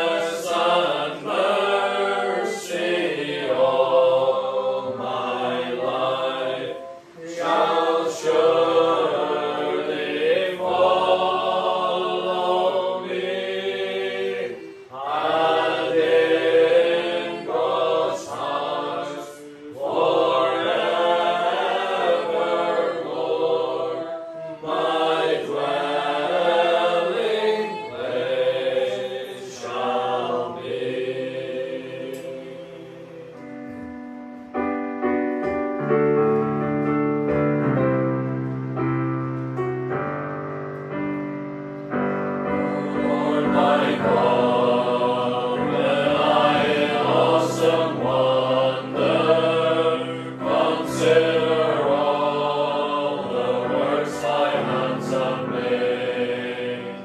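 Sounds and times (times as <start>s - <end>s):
choir singing a hymn: 0.0s - 34.7s, 40.8s - 57.0s.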